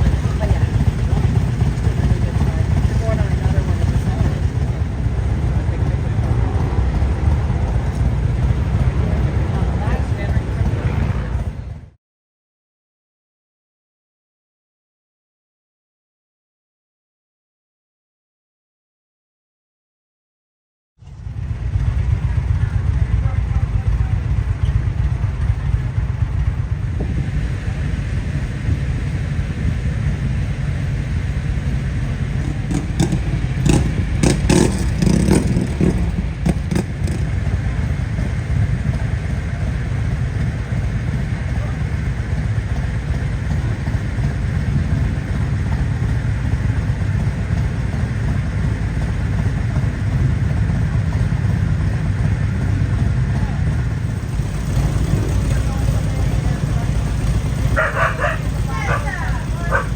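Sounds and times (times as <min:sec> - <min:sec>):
motorcycle engine rumbling: 0:00.0 - 0:12.0, 0:21.0 - 0:59.9.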